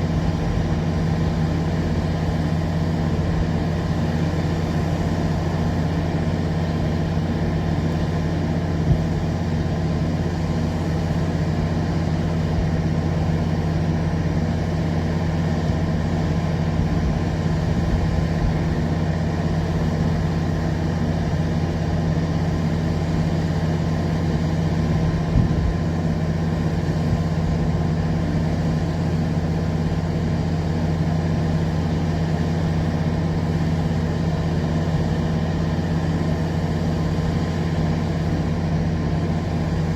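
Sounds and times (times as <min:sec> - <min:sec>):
engine idling hum: 0:00.0 - 0:39.9.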